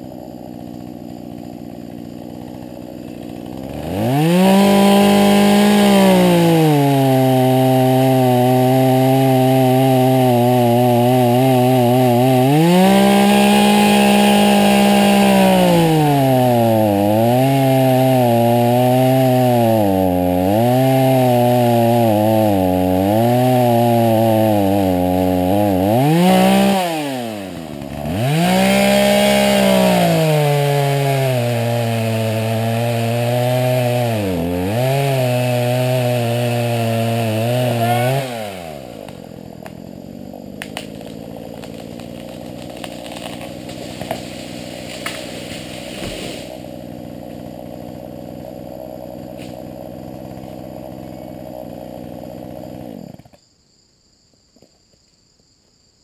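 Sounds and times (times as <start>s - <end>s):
chainsaw cutting wood: 0.0s - 53.4s.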